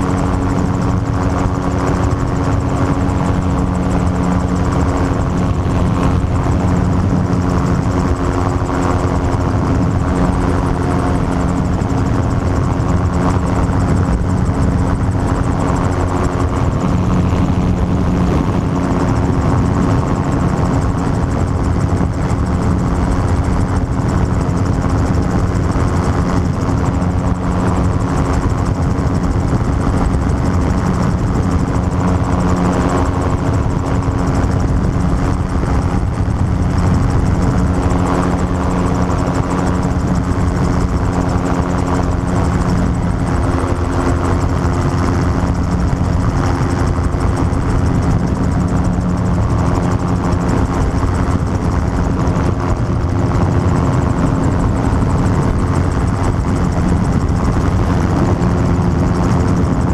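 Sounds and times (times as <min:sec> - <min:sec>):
gyrocopter engine drone: 0:00.0 - 0:59.9.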